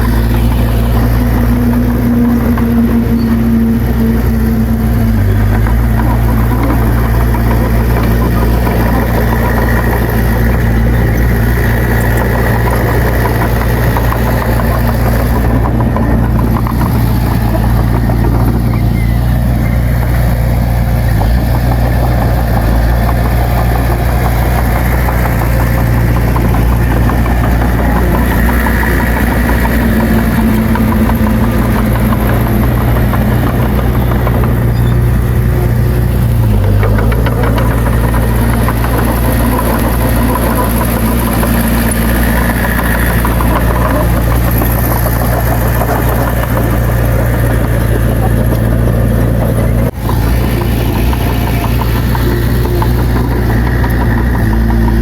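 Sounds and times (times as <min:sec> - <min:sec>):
loud diesel engine running: 0:00.0 - 0:55.0.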